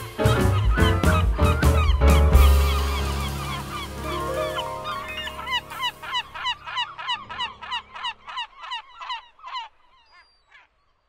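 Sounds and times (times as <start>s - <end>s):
rapid bird calls: 0.0s - 11.0s.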